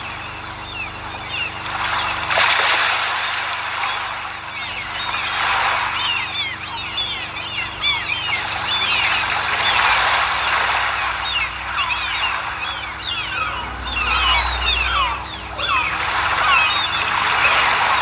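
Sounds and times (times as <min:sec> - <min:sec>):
bird chirps: 0:00.0 - 0:02.4, 0:03.9 - 0:18.0.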